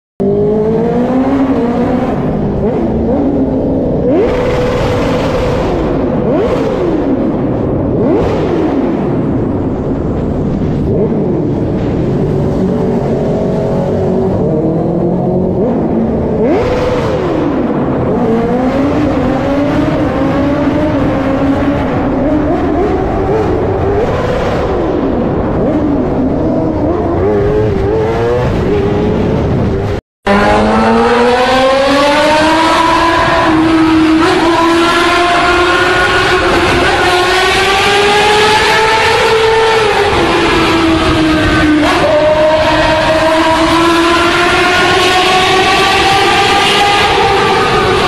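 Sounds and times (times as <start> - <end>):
motorcycle engine revving in tunnel: 0.2 - 48.0.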